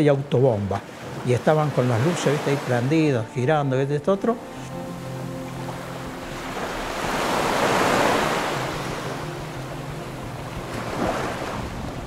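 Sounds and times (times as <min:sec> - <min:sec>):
surf washing on shore: 0:00.6 - 0:03.4, 0:04.4 - 0:12.0.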